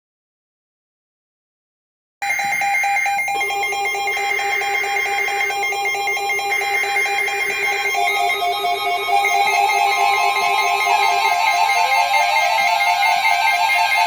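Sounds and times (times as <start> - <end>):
electronic ringing trill: 2.2 - 14.0.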